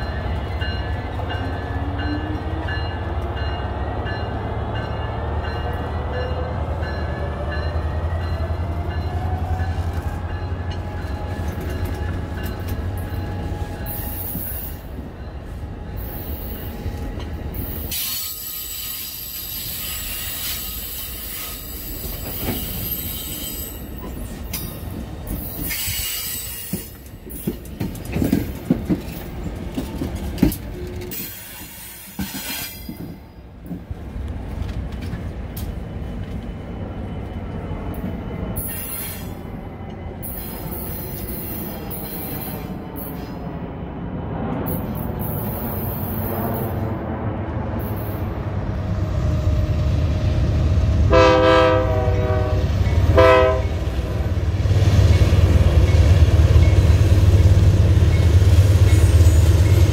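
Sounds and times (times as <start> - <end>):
diesel locomotive rumble: 0.0 - 59.9
rising locomotive whine: 0.0 - 59.9.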